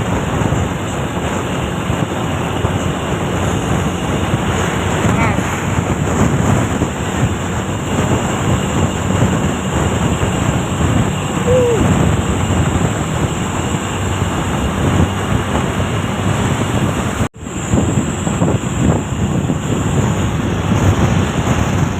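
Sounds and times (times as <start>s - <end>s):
passing traffic: 0.0s - 21.9s
wind rumbling on microphone: 0.0s - 21.9s.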